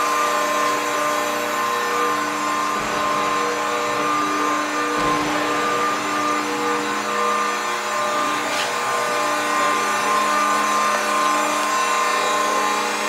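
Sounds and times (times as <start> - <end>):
hydraulic machine hum and whine: 0.0 - 13.0.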